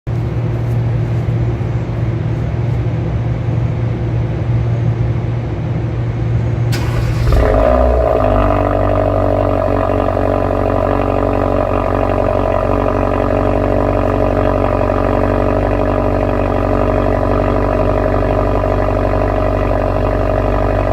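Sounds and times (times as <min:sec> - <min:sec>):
car exhaust drone: 0:00.1 - 0:20.9.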